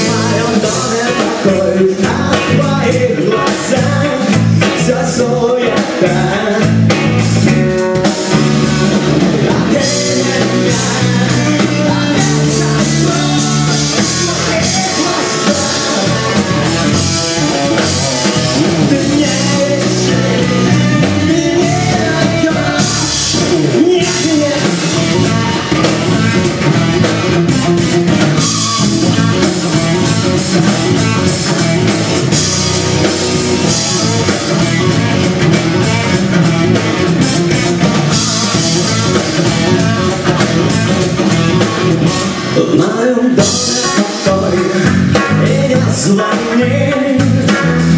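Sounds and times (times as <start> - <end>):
instrumental rock music: 0.0 - 47.9.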